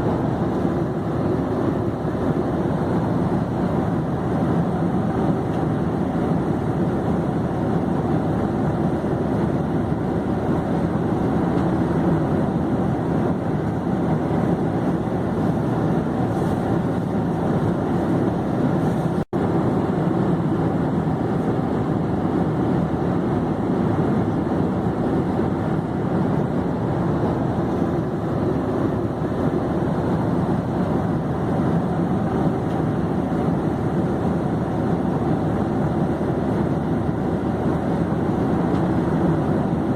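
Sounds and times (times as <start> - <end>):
airplane drone in flight: 0.0 - 39.9.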